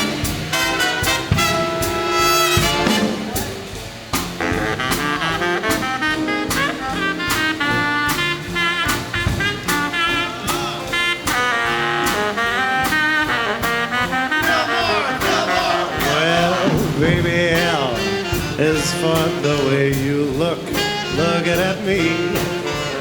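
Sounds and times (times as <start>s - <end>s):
drums keeping a beat: 0.0s - 23.0s
saxophones and brass playing: 0.0s - 23.0s.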